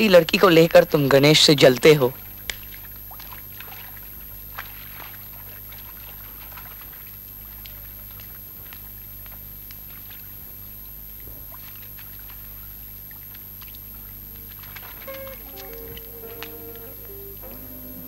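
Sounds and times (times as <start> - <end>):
faint ticks and crackle: 0.0 - 18.0
low electrical hum: 0.0 - 18.0.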